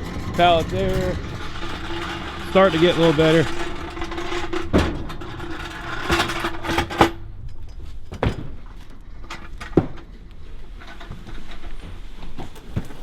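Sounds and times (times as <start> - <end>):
steady hum: 0.0 - 12.9.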